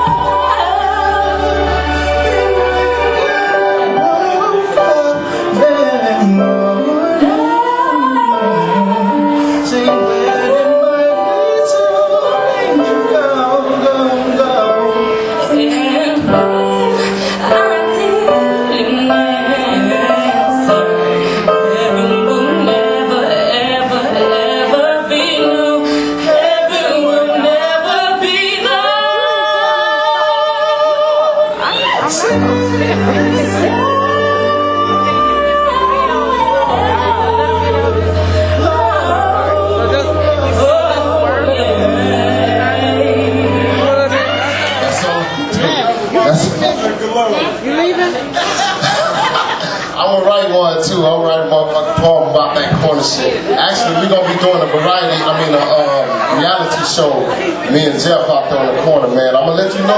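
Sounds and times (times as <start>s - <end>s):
backing music: 0.0s - 59.9s.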